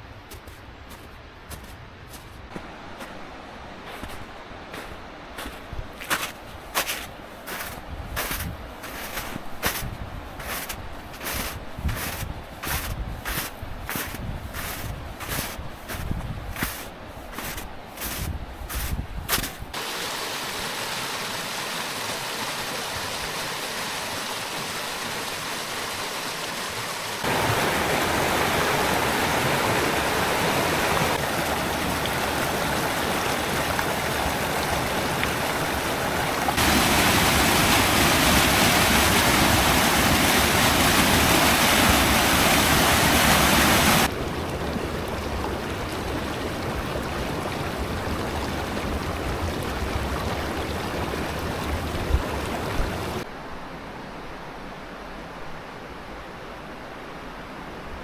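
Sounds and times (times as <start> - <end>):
stream rushing over rocks: 1.6 - 53.3.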